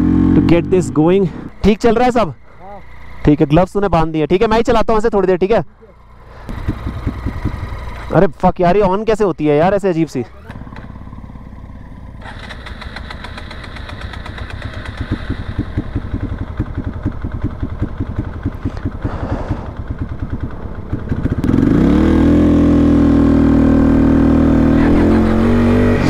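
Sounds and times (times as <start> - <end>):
motorcycle engine revving: 0.0 - 3.8, 5.9 - 8.3, 10.1 - 26.0.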